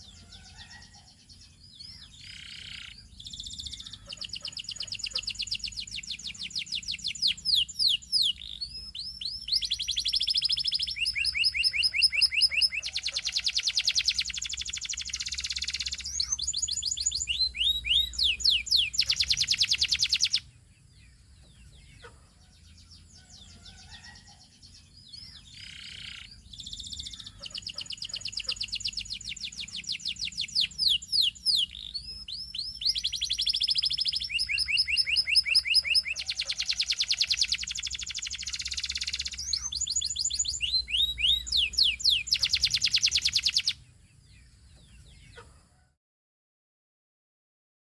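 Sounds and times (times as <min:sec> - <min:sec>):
canary singing trills: 0:00.0 - 0:45.8
faint bird chirps: 0:00.0 - 0:46.0.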